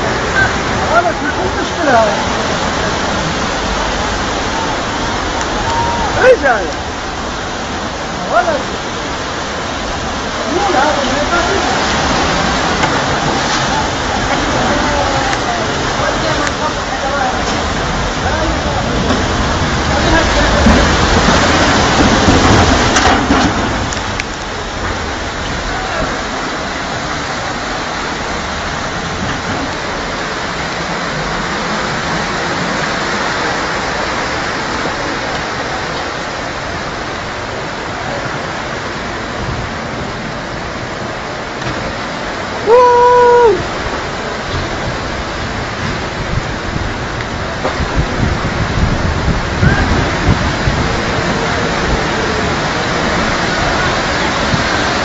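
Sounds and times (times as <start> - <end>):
low rumbling bumps: 0.0 - 42.9, 43.6 - 55.0
heavy rain pouring: 0.0 - 55.0
rushing water: 0.0 - 55.0.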